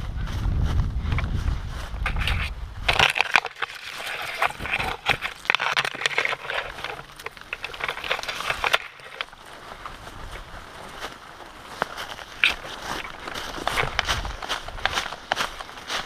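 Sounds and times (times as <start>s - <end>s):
footsteps through dry undergrowth: 0.0s - 16.0s
rustling and twigs crackling: 0.0s - 16.0s.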